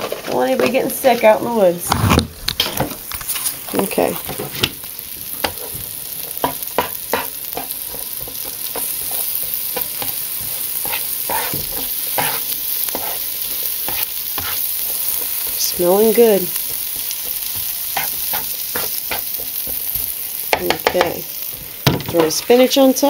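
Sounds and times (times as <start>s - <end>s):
vegetables sizzling in butter: 0.0s - 23.0s
spatula scraping and tapping griddle: 2.5s - 22.8s.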